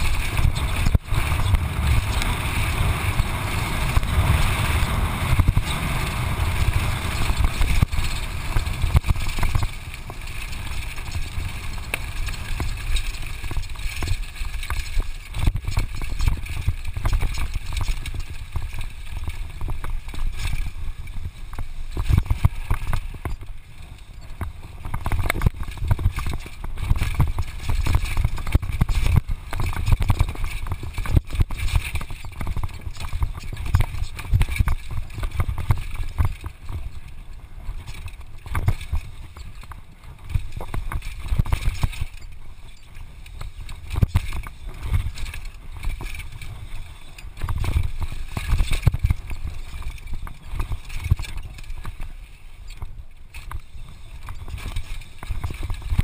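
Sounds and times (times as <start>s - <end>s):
mountain bike rattling: 0.0s - 56.0s
wind buffeting microphone: 0.0s - 56.0s.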